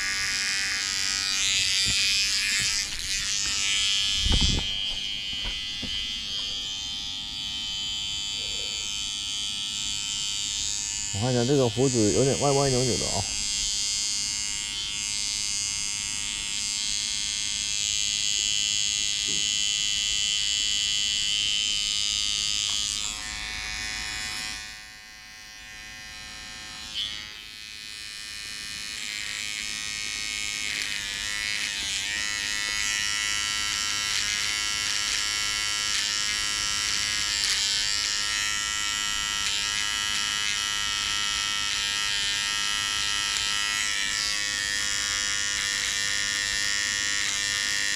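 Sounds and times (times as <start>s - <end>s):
electric shaver buzzing: 0.0s - 47.9s.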